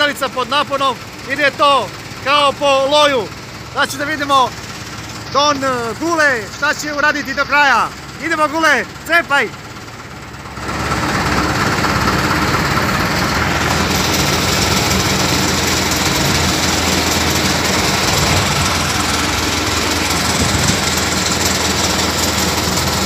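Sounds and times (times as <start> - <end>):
crane diesel engine running: 0.0 - 23.0.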